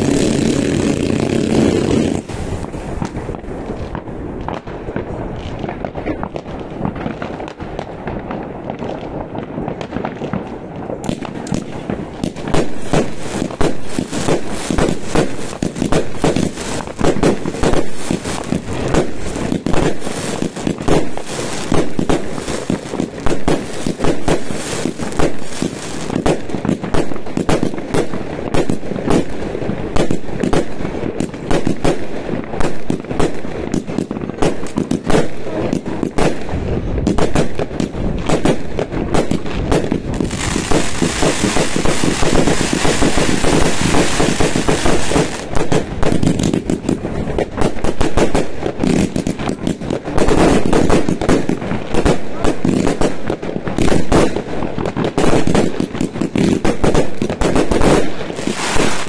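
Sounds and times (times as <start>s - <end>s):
fireworks cracking and banging: 0.0s - 59.0s.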